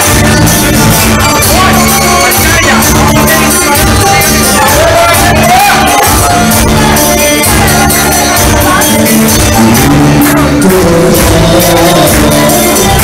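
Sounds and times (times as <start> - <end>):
live band playing dance music: 0.0 - 13.0
person singing: 0.0 - 13.0.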